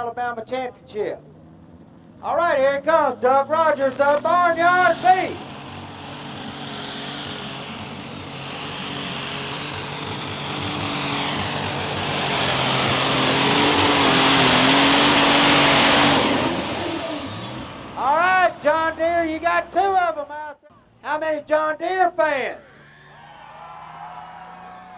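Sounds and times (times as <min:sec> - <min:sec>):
tractor engine high whine: 0:00.0 - 0:21.1.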